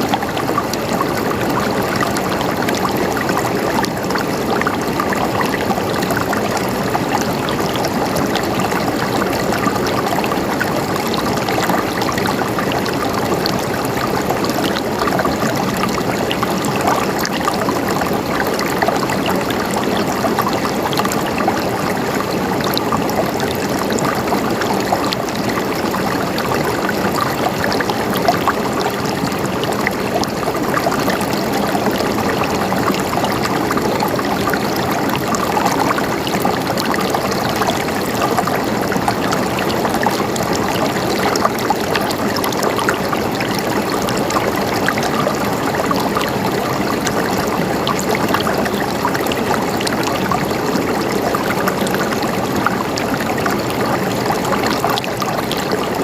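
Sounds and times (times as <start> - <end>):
running water gurgling: 0.0 - 56.0.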